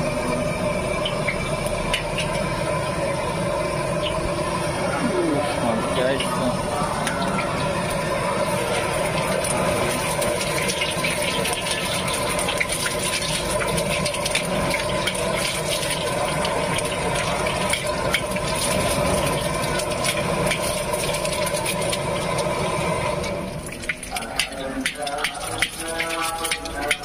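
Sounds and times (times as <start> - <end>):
egg sizzling in hot oil: 0.0 - 27.0
low stove roar: 0.0 - 27.0.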